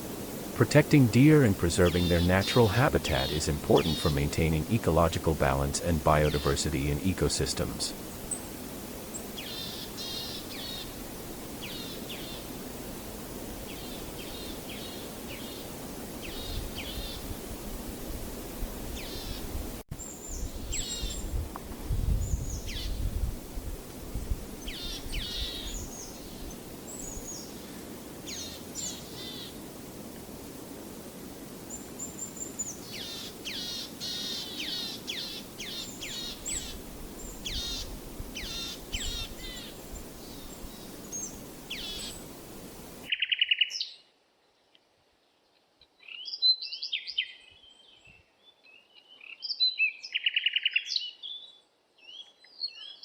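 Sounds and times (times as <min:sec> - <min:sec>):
outdoor background hiss: 0:00.0 - 0:50.2.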